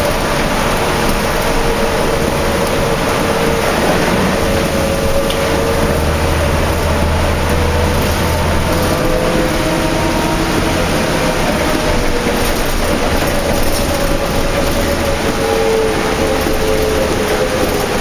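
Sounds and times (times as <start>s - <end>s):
bus diesel engine drone: 0.0s - 18.0s
road and rain noise: 0.0s - 18.0s
steady whine: 0.0s - 18.0s.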